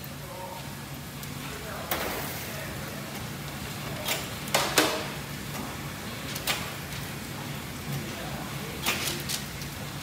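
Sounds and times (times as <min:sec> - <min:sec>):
conveyor machine hum: 0:00.0 - 0:10.0.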